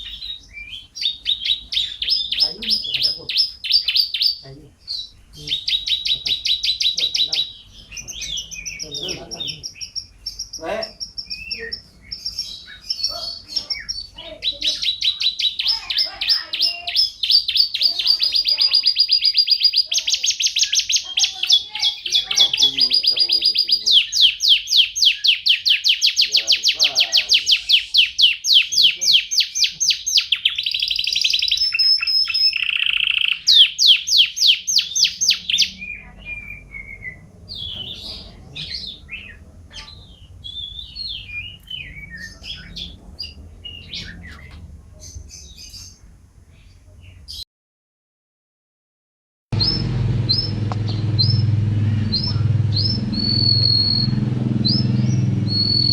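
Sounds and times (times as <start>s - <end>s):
canary singing trills: 0.0s - 47.4s, 49.6s - 55.9s.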